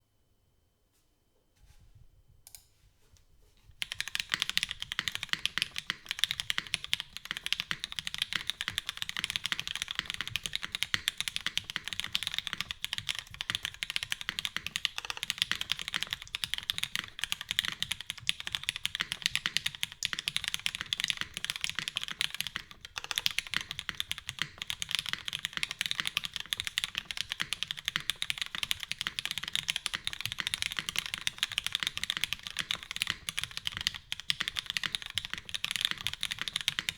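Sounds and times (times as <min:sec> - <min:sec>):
fast mechanical keyboard typing: 0:03.8 - 0:36.9.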